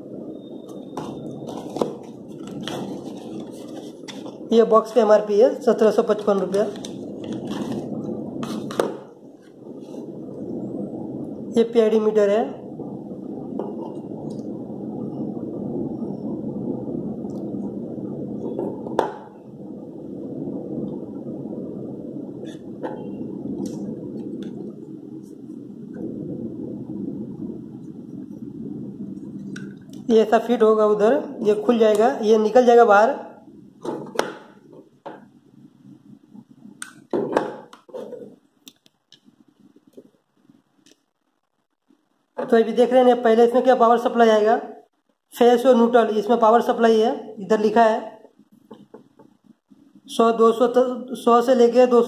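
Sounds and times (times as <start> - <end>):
low background rumble: 0.0 - 43.3.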